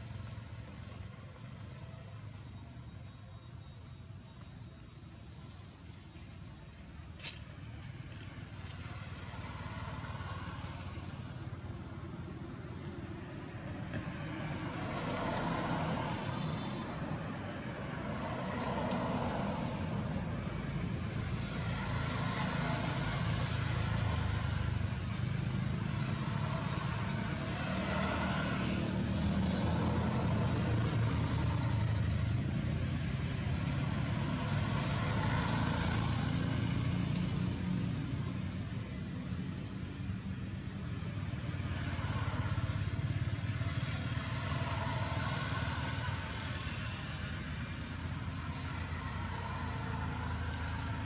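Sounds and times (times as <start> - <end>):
road traffic rumble: 0.0 - 51.0
vehicles passing with tyre hiss: 0.0 - 51.0.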